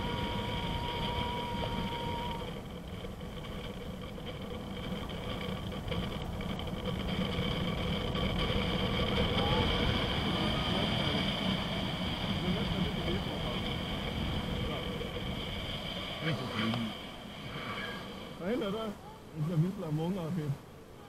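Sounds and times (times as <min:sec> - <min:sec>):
wind rushing over microphone: 0:00.0 - 0:20.6.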